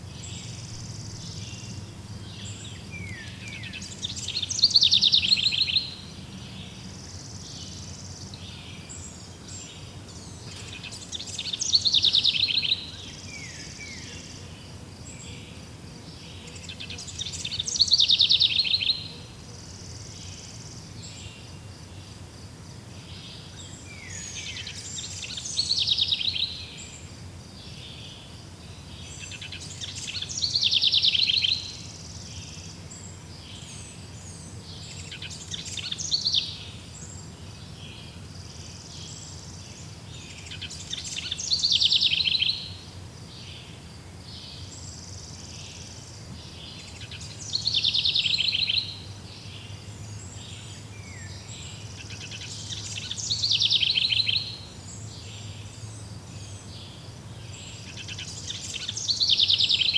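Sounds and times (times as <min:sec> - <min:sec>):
insects buzzing: 0:00.0 - 0:59.9
songbird trilling: 0:00.1 - 0:14.3, 0:16.3 - 0:19.2, 0:23.1 - 0:27.0, 0:29.0 - 0:37.2, 0:38.8 - 0:42.8, 0:44.4 - 0:55.8, 0:56.4 - 0:59.9.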